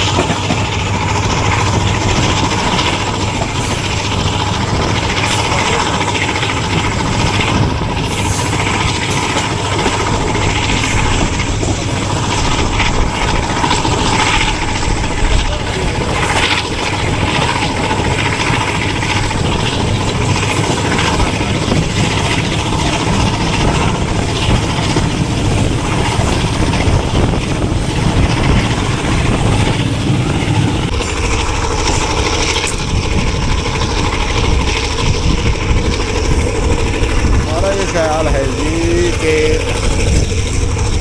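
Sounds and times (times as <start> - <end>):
locomotive engine working: 0.0 - 41.0
train wheels rumbling on rails: 0.0 - 41.0.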